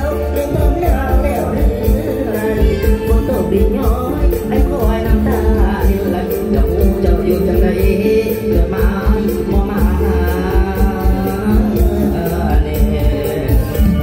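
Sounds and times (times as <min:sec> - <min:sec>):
man singing over loudspeakers: 0:00.0 - 0:14.0
steady drum beat: 0:00.0 - 0:14.0.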